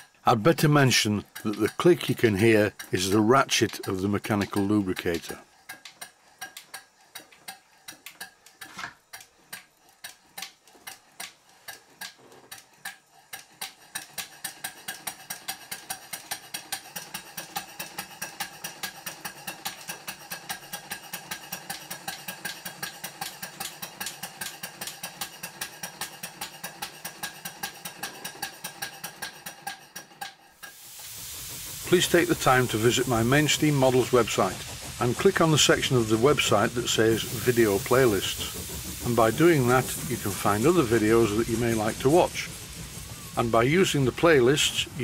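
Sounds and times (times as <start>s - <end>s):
lubricator ratchet clicking: 0.0s - 45.0s
model steam engine running: 0.0s - 45.0s.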